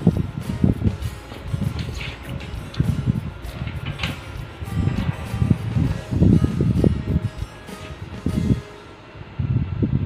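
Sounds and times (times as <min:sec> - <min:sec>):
bass-heavy background music: 0:00.0 - 0:10.0.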